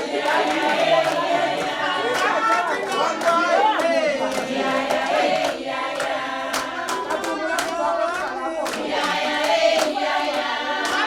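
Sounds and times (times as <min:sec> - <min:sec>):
group singing: 0:00.0 - 0:11.0
hand claps: 0:00.0 - 0:11.0.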